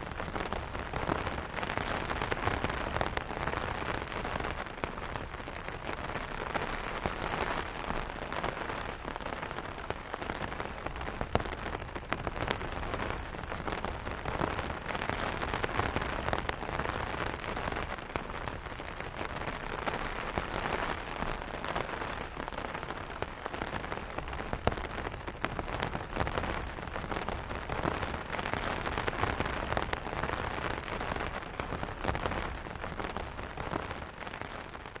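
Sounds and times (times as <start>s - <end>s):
rain pattering on an umbrella: 0.0s - 35.0s.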